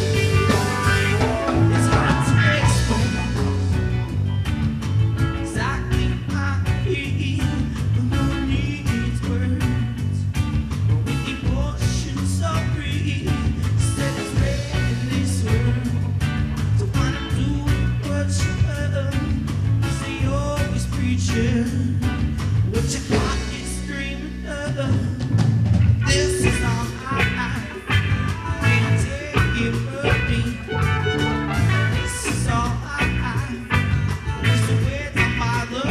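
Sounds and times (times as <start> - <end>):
drum kit beat: 0.0 - 35.9
electric guitar: 0.0 - 35.9.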